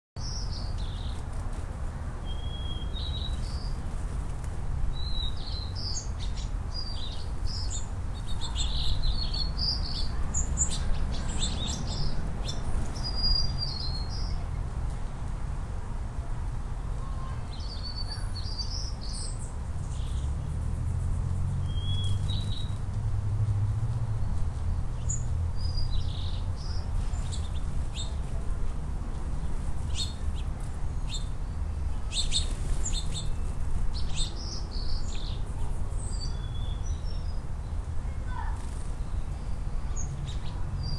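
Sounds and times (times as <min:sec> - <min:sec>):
songbirds chirping: 0:00.2 - 0:40.9.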